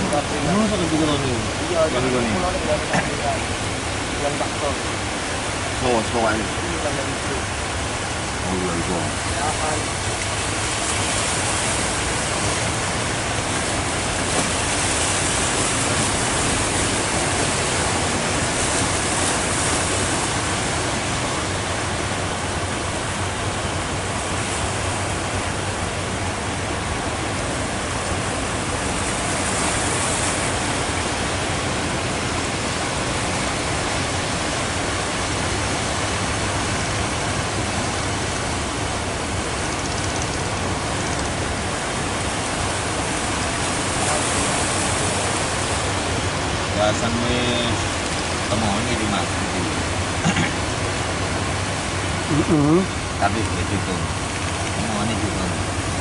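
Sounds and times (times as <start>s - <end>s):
surf breaking on shore: 0.0s - 56.0s.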